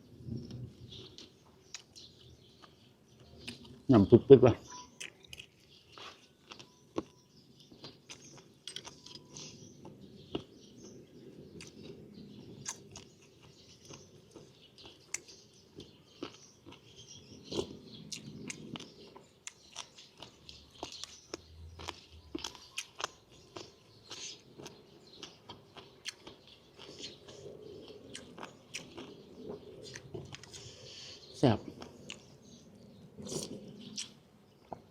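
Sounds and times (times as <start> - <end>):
person chewing food: 1.0 - 3.9, 4.9 - 34.9.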